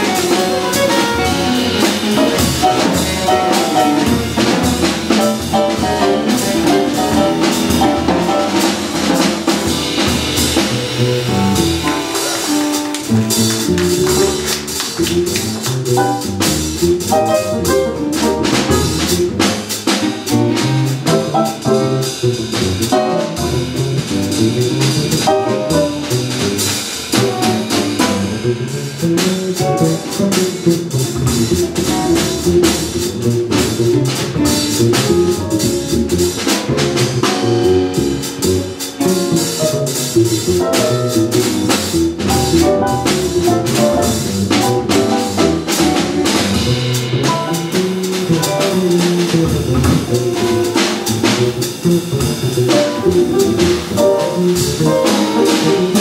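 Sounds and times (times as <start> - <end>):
drums and cymbals: 0.0 - 56.0
upright bass: 0.0 - 56.0.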